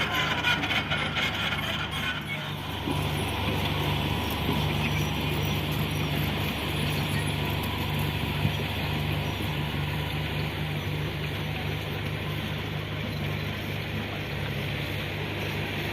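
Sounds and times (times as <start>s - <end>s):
excavator engine running: 0.0s - 15.9s.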